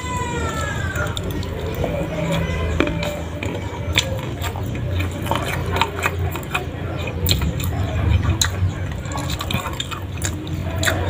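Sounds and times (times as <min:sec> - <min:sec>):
person chewing and smacking: 0:00.0 - 0:11.0.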